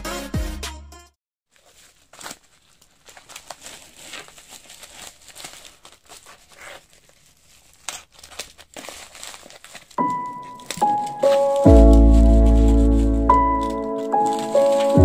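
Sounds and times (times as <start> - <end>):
plastic bag crinkling and tearing: 1.5 - 15.0.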